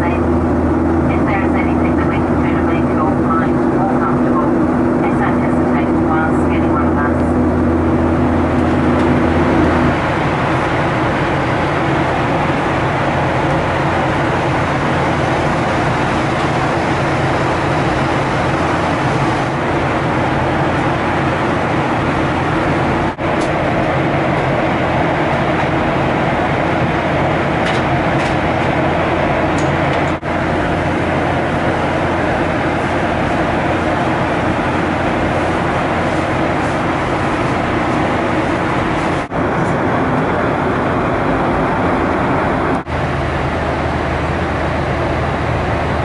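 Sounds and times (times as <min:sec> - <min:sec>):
airflow rush in aircraft cabin: 0:00.0 - 0:46.0
jet engines humming: 0:00.0 - 0:46.0.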